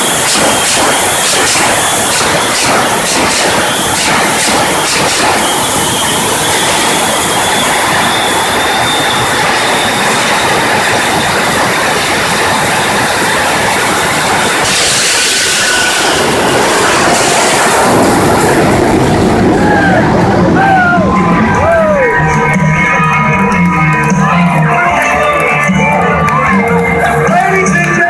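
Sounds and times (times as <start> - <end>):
thin high whine: 0.0 - 27.8
jet engines roaring: 0.0 - 28.0.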